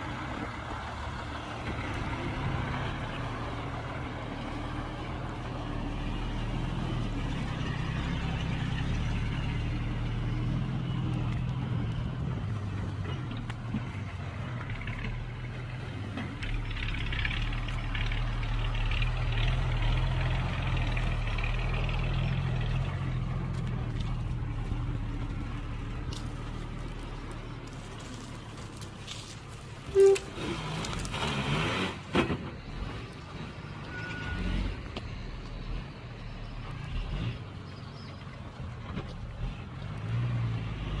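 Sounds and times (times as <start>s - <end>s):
heavy diesel engines droning: 0.0s - 41.0s.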